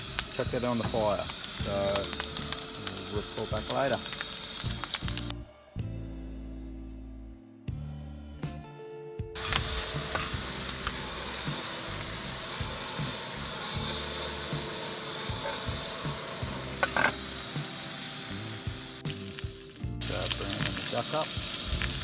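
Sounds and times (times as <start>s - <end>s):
food sizzling in frying pan: 0.0s - 5.3s, 9.4s - 22.0s.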